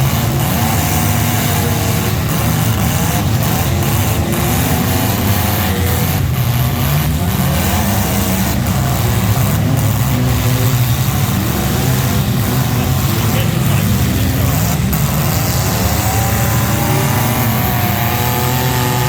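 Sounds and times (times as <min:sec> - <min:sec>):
vehicle engine running loudly: 0:00.0 - 0:19.0.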